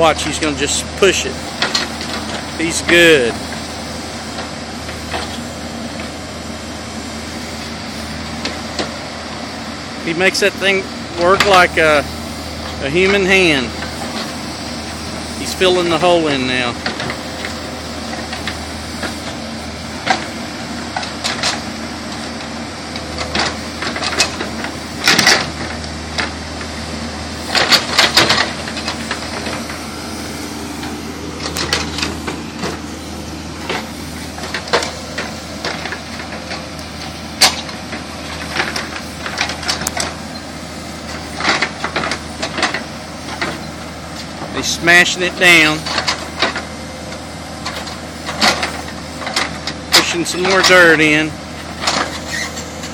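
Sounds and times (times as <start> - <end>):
backhoe engine running: 0.0 - 52.9.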